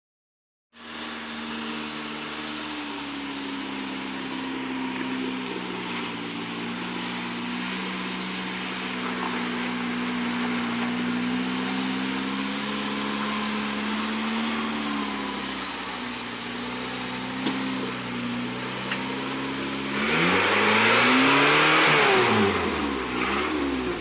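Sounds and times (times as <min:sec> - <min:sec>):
truck engine running at low revs: 0:00.8 - 0:24.0.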